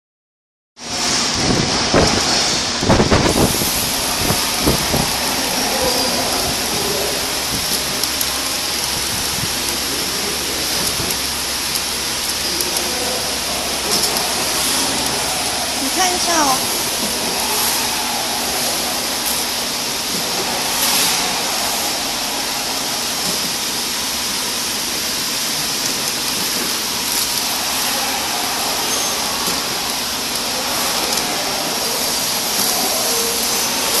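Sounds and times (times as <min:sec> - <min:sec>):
packing machine hiss and whir: 0:00.9 - 0:34.0.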